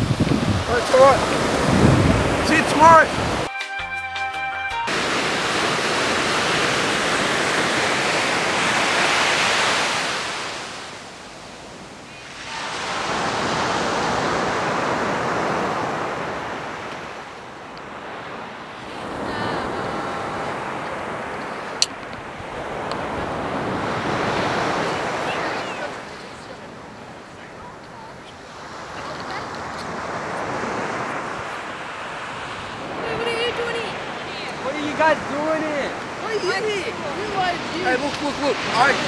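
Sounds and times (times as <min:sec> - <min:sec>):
ocean surf on sandy beach: 0:00.0 - 0:03.5, 0:04.9 - 0:39.0.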